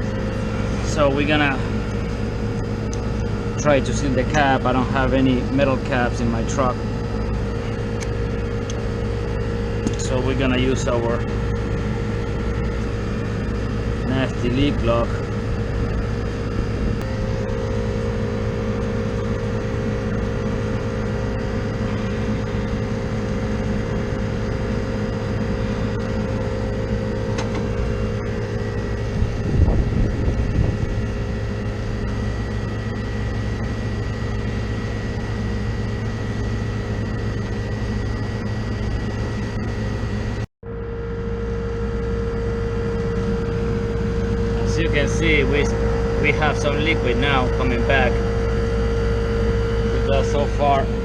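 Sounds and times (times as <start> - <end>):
air conditioner unit humming: 0.0 - 51.0.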